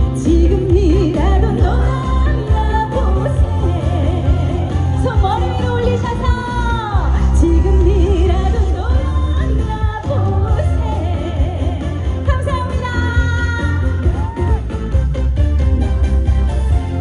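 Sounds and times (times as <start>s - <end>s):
woman singing with vibrato: 0.0s - 14.7s
backing track with heavy bass: 0.0s - 17.0s.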